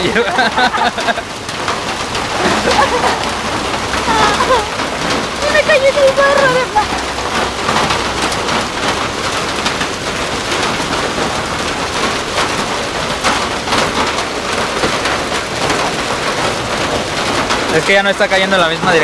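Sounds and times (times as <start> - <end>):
hail and rain pelting pavement: 0.0 - 19.0.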